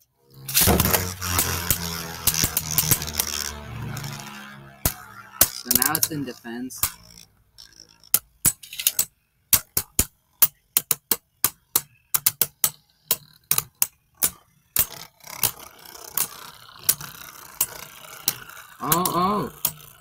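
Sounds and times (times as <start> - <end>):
spinning whir: 0.3 - 20.0
spinning tops clacking: 0.4 - 20.0.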